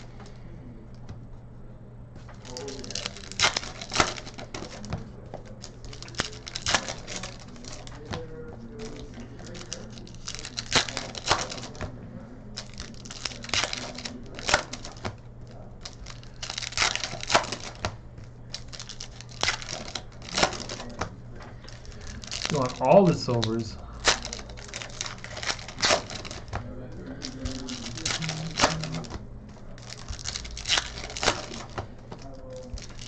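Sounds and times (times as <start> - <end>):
steady low hum: 0.0 - 33.0
trading cards shuffled by hand: 2.2 - 12.0, 12.6 - 33.0
wrappers crinkling: 2.2 - 33.0.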